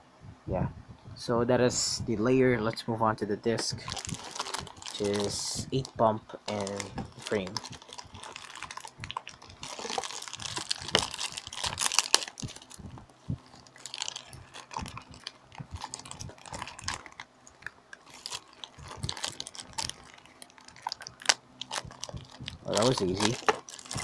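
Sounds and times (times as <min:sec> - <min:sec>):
plastic bag crinkling: 0:03.7 - 0:24.0.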